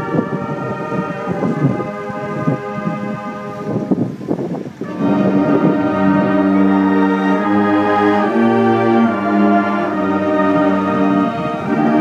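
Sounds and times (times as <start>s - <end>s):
marching band brass chords: 0.0s - 4.1s, 4.8s - 12.0s.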